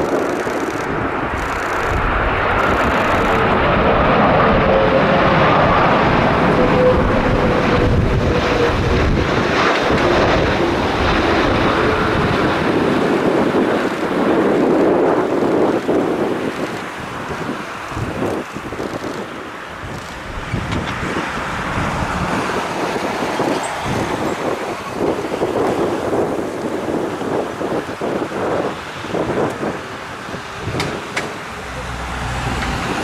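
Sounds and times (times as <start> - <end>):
jet engines passing low: 0.0 - 33.0
wind on microphone: 0.0 - 33.0.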